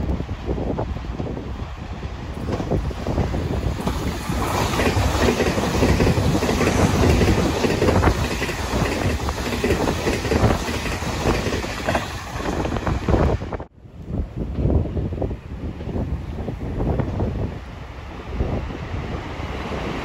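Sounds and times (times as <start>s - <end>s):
train passing rumble: 0.0s - 20.0s
wind buffeting microphone: 0.0s - 20.0s.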